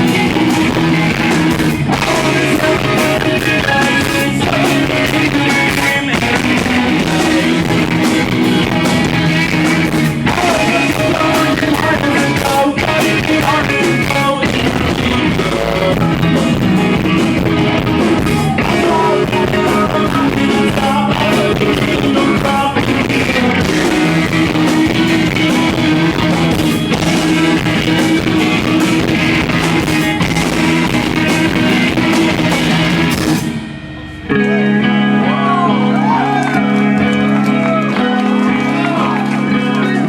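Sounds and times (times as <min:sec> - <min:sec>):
person singing: 0:00.0 - 0:33.2
distorted electric guitars: 0:00.0 - 0:40.0
drum kit: 0:00.0 - 0:40.0.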